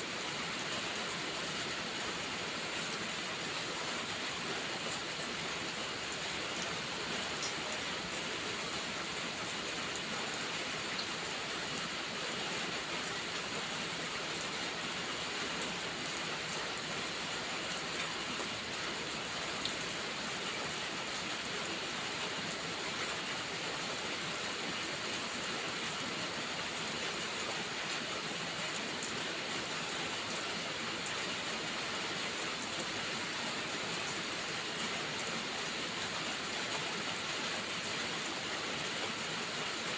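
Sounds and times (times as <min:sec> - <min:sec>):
rain drops ticking: 0:00.0 - 0:39.9
steady rain hiss: 0:00.0 - 0:39.9.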